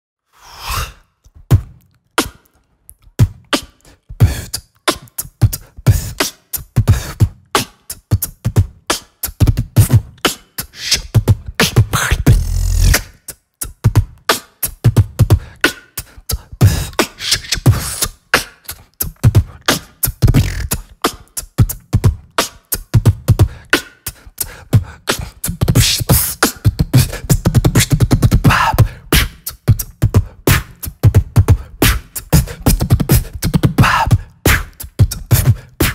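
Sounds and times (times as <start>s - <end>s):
beatbox mouth clicks: 0.7s - 35.9s
beatbox bass hits: 1.3s - 35.9s.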